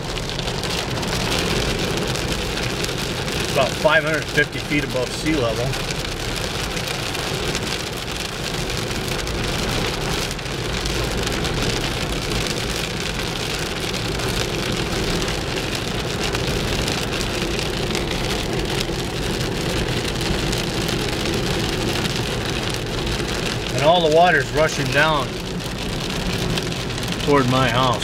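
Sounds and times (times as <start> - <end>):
car engine: 0.0 - 28.0
rain on a car: 0.0 - 28.0
road rumble: 0.0 - 28.0.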